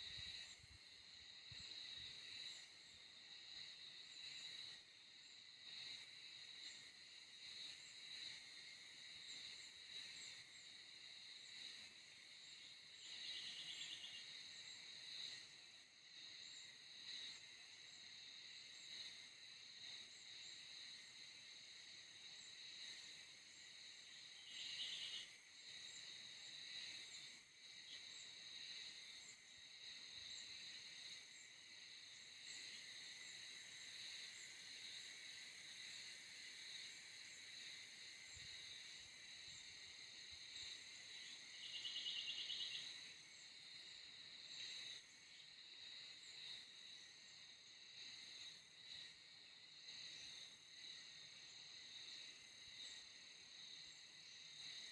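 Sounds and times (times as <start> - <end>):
insects chirping: 0.0 - 54.9
loud pulsing insect trills: 0.0 - 54.9.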